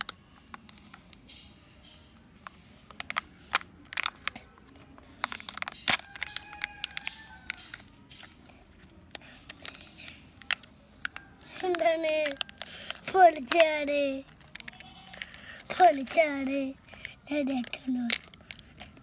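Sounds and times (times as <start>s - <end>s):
packaging crackling and clicking: 2.4s - 19.0s.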